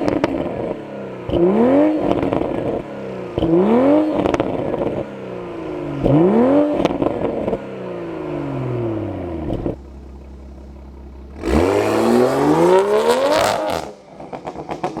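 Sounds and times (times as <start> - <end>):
car engine revving: 0.0 - 15.0
exhaust crackles: 0.0 - 15.0.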